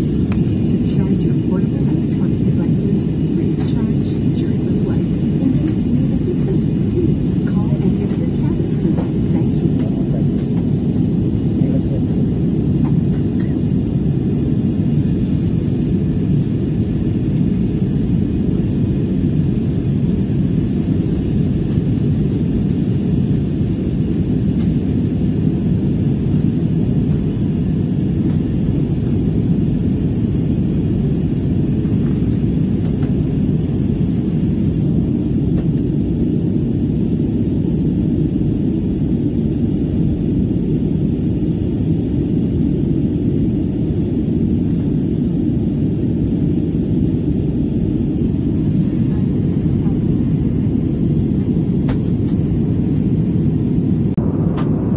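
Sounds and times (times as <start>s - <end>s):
jet engines droning: 0.0s - 54.9s.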